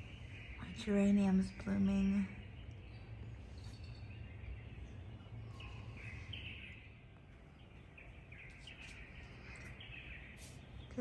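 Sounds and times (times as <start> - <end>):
low background hum: 0.0 - 11.0
songbirds chirping: 0.0 - 11.0.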